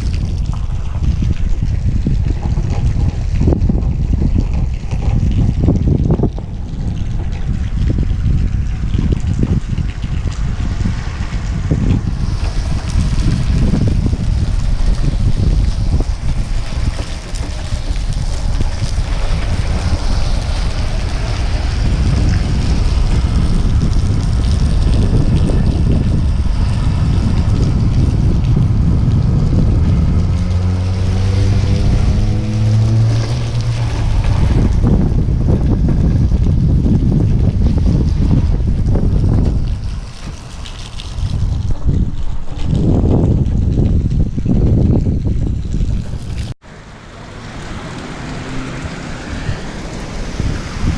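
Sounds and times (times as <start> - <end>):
strong wind buffeting microphone: 0.0 - 50.9.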